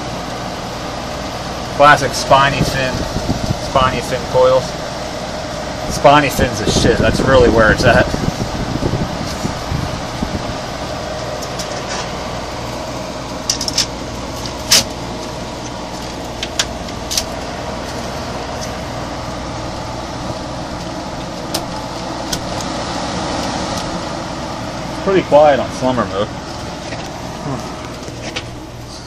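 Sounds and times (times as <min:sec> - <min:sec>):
air conditioner running: 0:00.0 - 0:29.0.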